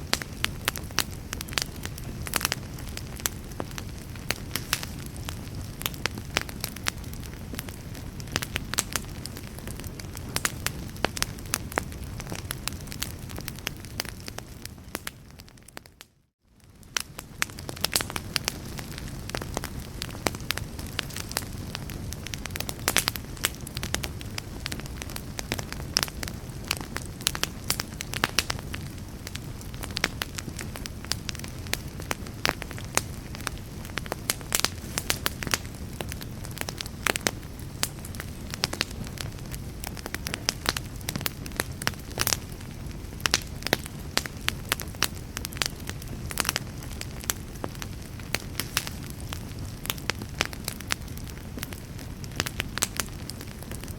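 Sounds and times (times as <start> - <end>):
fire crackles and pops: 0.0 - 53.9
wood fire burning: 0.0 - 53.9.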